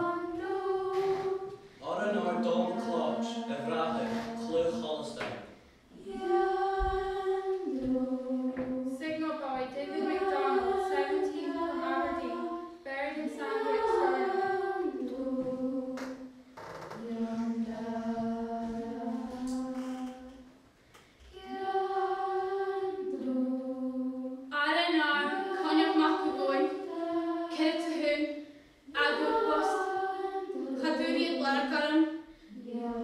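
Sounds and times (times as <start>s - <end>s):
group of young voices singing: 0.0s - 33.0s.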